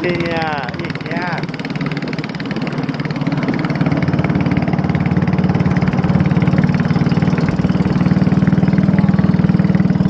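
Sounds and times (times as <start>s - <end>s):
boat engine pulsing drone: 0.0s - 10.0s.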